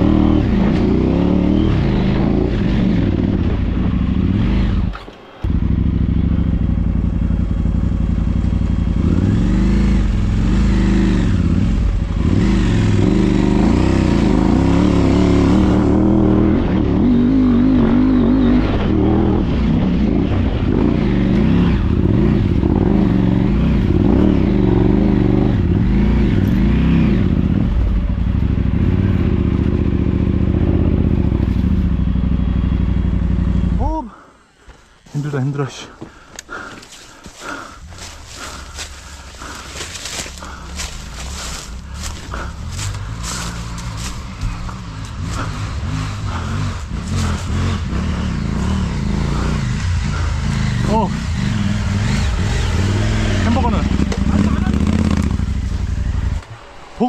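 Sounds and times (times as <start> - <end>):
motorcycle engine revving: 0.0 - 34.3, 36.1 - 57.0.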